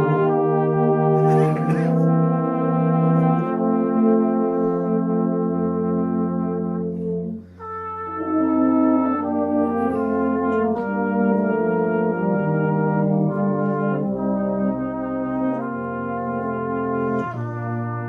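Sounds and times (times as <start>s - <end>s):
brass band playing hymn: 0.0s - 18.0s.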